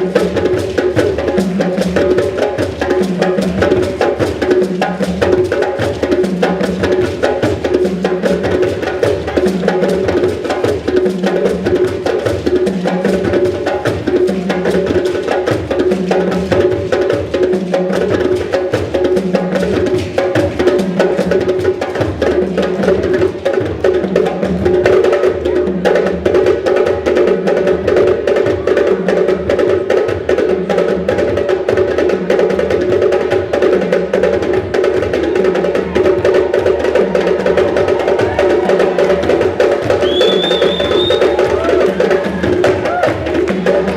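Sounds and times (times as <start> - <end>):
music with percussion: 0.0 - 43.9.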